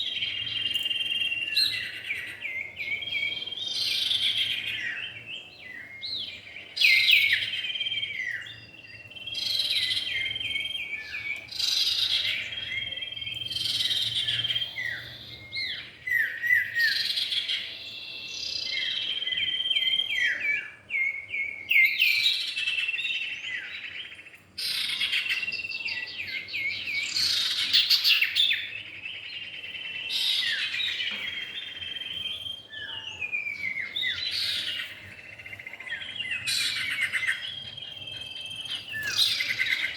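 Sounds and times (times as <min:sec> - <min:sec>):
bird song with falling chirps: 0:00.0 - 0:39.9.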